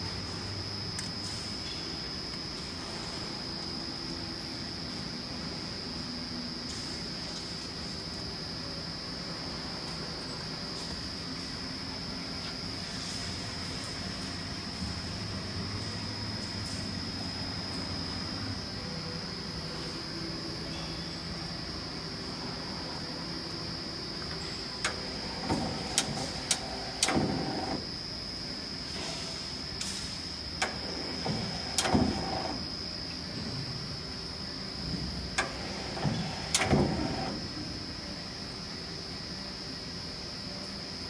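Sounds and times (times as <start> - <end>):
lathe high-pitched whine: 0.0 - 41.0.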